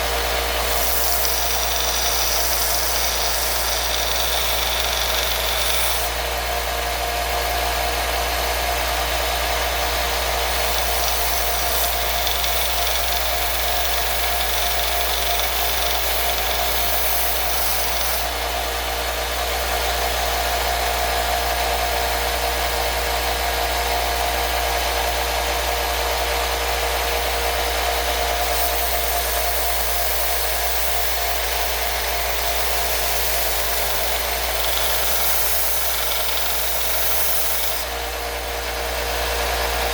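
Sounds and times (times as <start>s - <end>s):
power tool motor whine: 0.0s - 22.4s, 24.8s - 39.9s.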